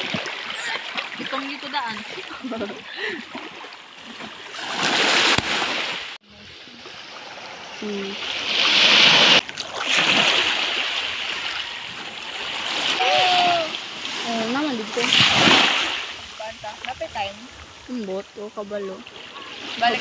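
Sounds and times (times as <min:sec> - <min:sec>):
sea water splashing: 0:00.0 - 0:20.0.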